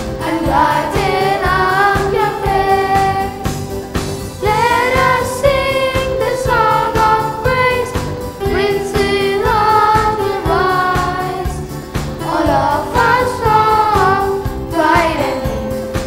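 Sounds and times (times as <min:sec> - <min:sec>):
voices singing: 0:00.0 - 0:15.8.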